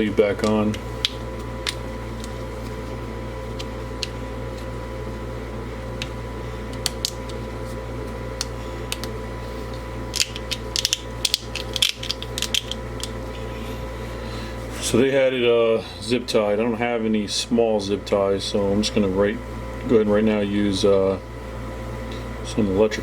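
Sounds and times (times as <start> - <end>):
steady room hum: 0.0 - 23.0.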